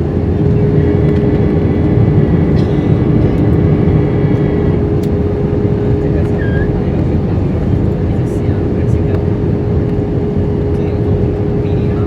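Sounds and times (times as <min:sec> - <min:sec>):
airliner cabin rumble: 0:00.0 - 0:12.0
steady cabin hum: 0:00.0 - 0:12.0.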